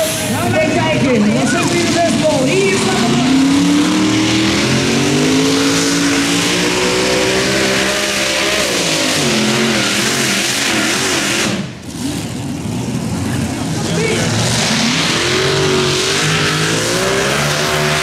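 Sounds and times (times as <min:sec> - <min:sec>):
tractor engine roaring: 0:00.0 - 0:18.0.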